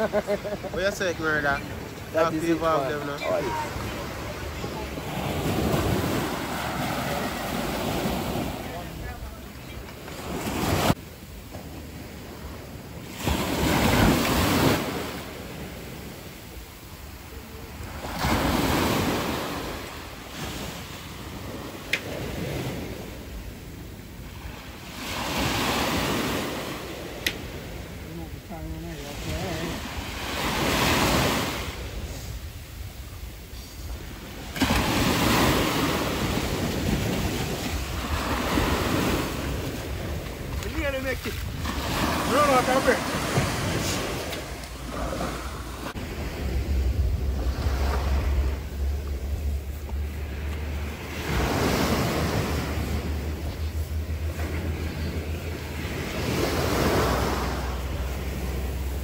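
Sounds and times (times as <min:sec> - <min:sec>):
sea waves washing onto beach: 0:00.0 - 0:59.0
wind rumbling on microphone: 0:00.9 - 0:59.0.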